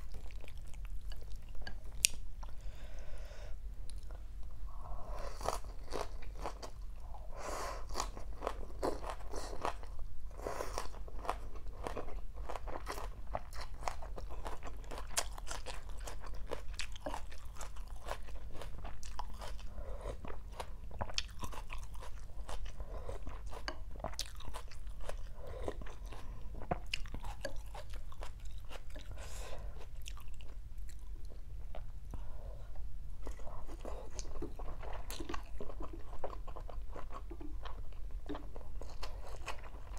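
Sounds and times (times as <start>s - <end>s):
person chewing and crunching food: 0.0s - 2.8s, 3.8s - 39.9s.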